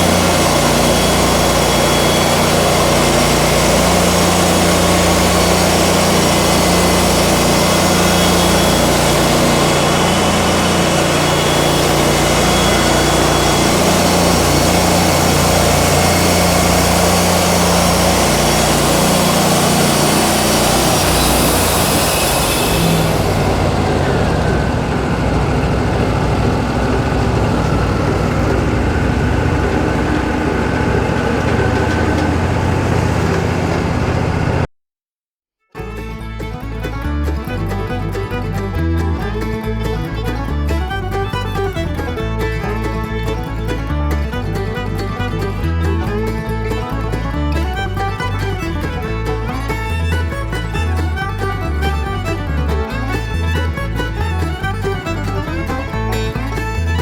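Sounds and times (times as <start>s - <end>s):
band saw cutting log: 0.0s - 34.7s, 40.7s - 57.0s
sawmill engine droning: 0.0s - 34.7s, 36.0s - 57.0s.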